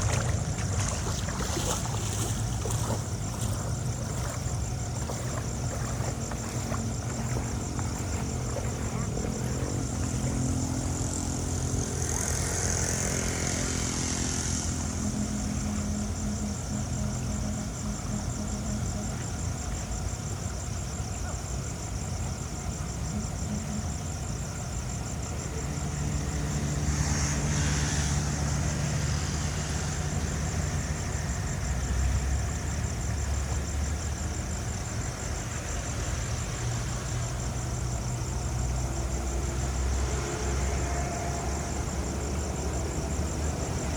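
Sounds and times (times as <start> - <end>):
engine running: 0.0 - 43.9.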